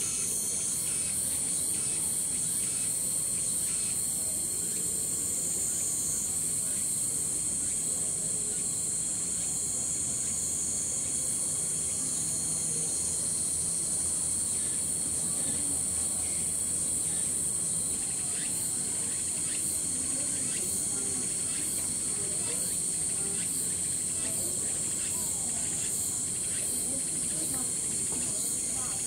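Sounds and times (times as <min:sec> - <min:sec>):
cicadas droning: 0:00.0 - 0:29.0.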